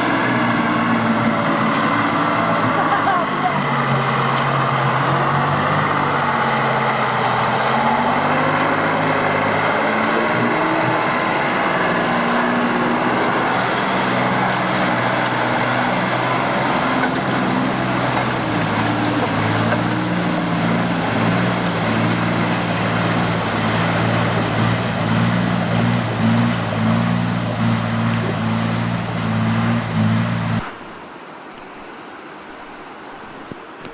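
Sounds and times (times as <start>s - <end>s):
truck diesel engine under load: 0.0s - 33.9s.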